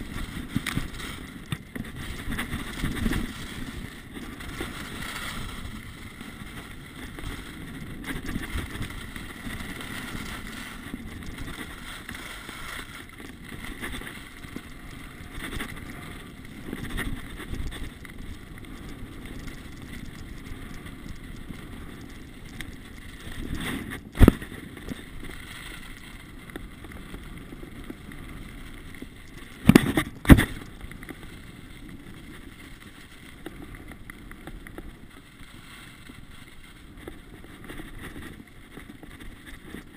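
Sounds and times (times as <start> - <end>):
wind on microphone: 0.0 - 32.5
skis scraping over snow: 0.0 - 39.9.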